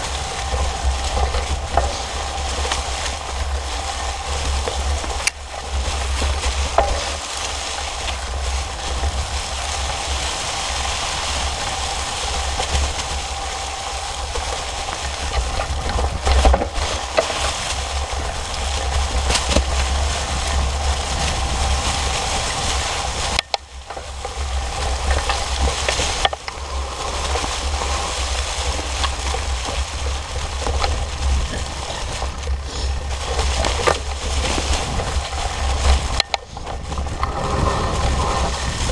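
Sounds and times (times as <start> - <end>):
bike tires crunching through leaves: 0.0 - 38.9
low rumble: 0.0 - 38.9.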